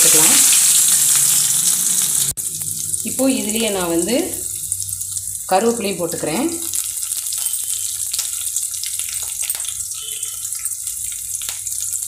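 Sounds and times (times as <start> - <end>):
onions sizzling in hot oil: 0.0 - 12.0
sharp oil crackles: 0.0 - 12.0.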